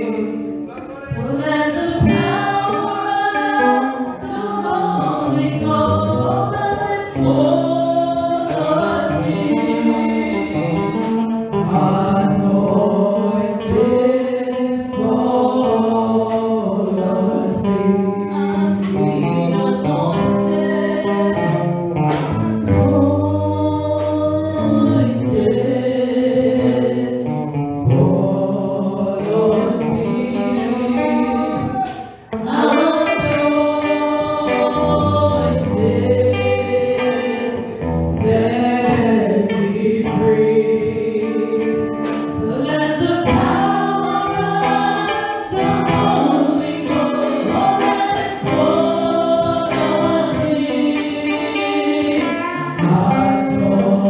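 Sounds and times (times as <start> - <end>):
group singing gospel song: 0.0 - 54.0.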